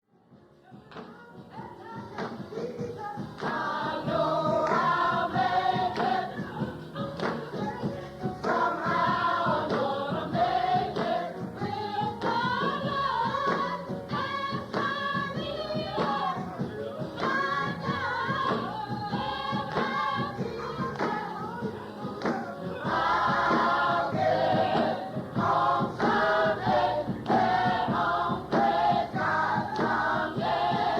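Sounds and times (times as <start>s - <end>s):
choir singing gospel music: 0.5s - 30.9s.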